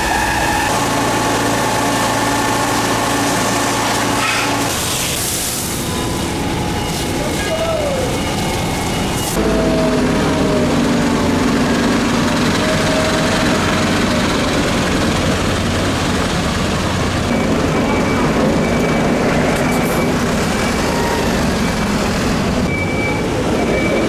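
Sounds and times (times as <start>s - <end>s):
heavy diesel machinery rumbling: 0.0s - 24.0s.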